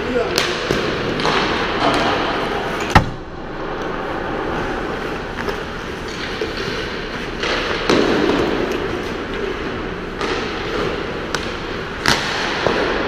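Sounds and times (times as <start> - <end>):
sticks and pucks clacking: 0.3 - 3.0, 5.2 - 13.0.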